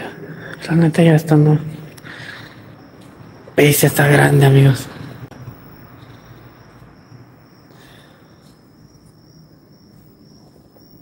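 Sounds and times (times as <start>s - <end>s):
cricket chirping: 0.0s - 11.0s
faint background hiss: 0.0s - 11.0s.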